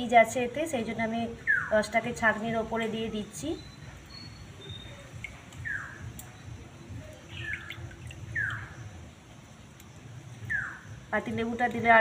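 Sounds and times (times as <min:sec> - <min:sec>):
low steady hum: 0:00.0 - 0:12.0
bird chirping: 0:01.2 - 0:02.1, 0:03.1 - 0:11.9.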